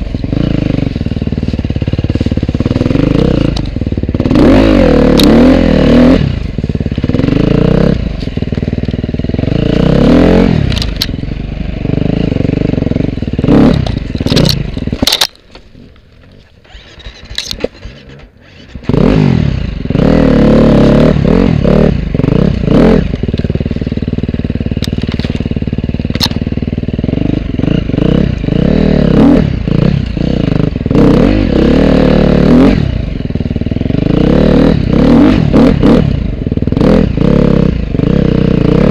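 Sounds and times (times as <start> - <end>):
dirt bike engine revving: 0.0 - 15.3, 16.6 - 38.9.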